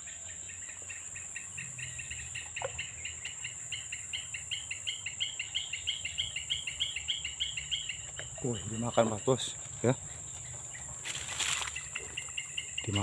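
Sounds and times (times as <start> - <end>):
high-pitched insect-like hum: 0.0 - 13.0.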